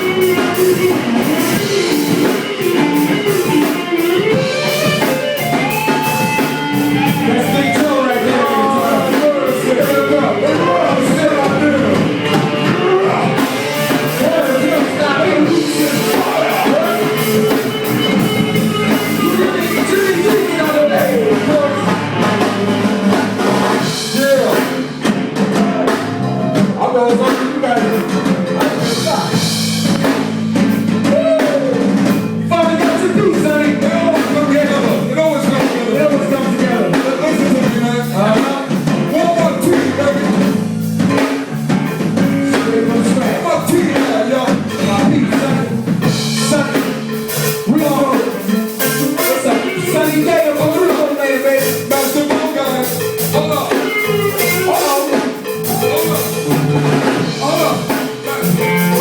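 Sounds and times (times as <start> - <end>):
person singing: 0.0 - 41.2, 41.8 - 59.0
drum kit: 0.0 - 59.0
electric bass: 0.0 - 59.0
electric guitar: 0.0 - 59.0.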